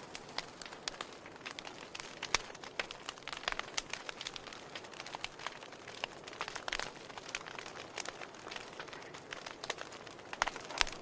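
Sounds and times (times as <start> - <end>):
fire popping: 0.0 - 11.0
wood fire crackling: 0.0 - 11.0.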